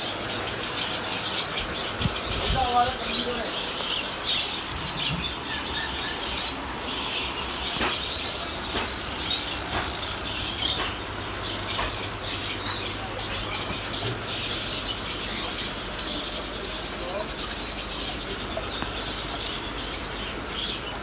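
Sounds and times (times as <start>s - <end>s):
background hubbub: 0.0s - 21.0s
small birds chirping: 0.0s - 21.0s.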